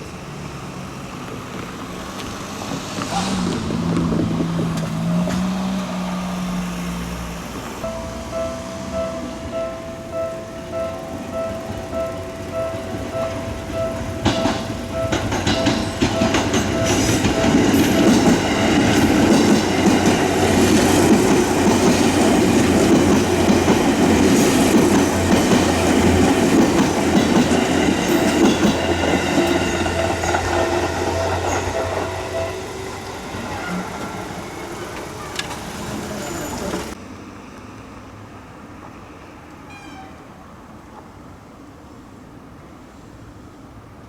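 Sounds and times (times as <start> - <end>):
electric train wheels clattering: 1.1 - 37.0.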